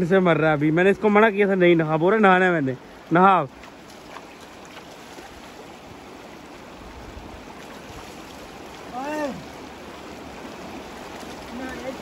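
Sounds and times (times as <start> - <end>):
water flowing over stones: 0.0 - 12.0
water splashing: 0.0 - 12.0.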